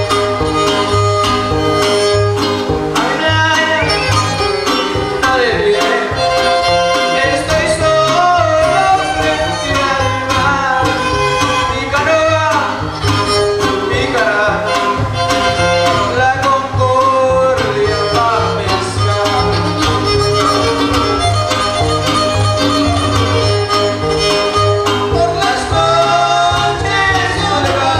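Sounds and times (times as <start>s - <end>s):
strummed guitars: 0.0s - 27.9s
violin melody: 0.0s - 27.9s.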